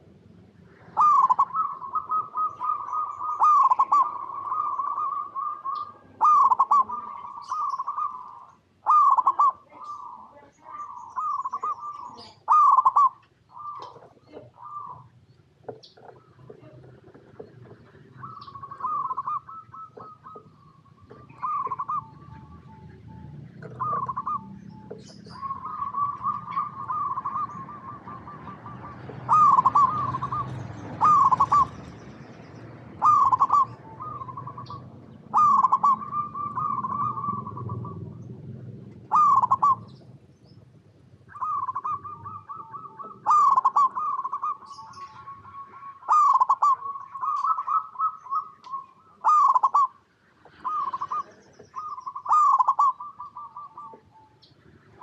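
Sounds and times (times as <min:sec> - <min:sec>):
dove cooing and trilling: 0:00.0 - 0:55.0
small birds chirping: 0:00.0 - 0:55.0.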